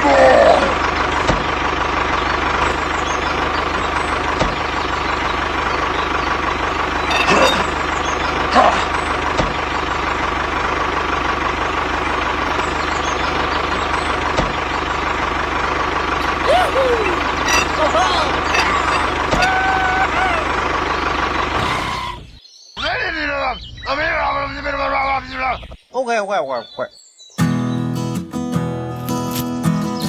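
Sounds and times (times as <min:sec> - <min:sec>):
tractor engine running: 0:00.0 - 0:25.6.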